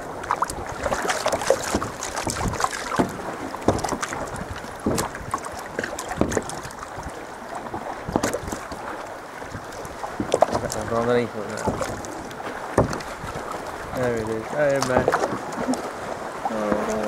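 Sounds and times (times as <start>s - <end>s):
water splashing against hull: 0.0s - 17.0s
wind on microphone: 0.0s - 17.0s.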